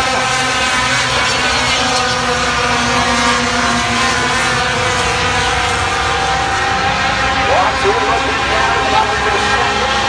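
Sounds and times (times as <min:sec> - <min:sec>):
racing truck engines: 0:00.0 - 0:10.0.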